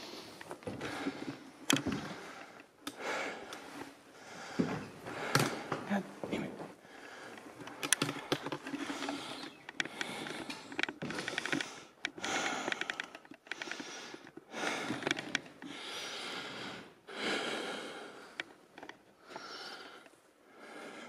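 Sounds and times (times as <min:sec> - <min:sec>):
person breathing heavily: 0:00.0 - 0:06.0, 0:06.8 - 0:21.0.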